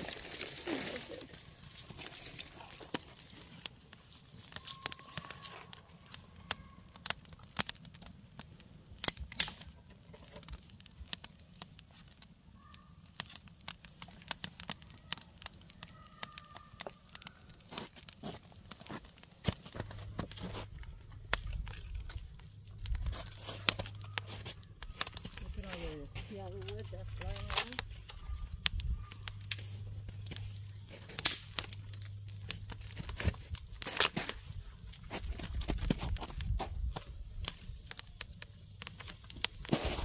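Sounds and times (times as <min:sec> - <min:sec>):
dry twigs snapping: 0:00.0 - 0:40.0.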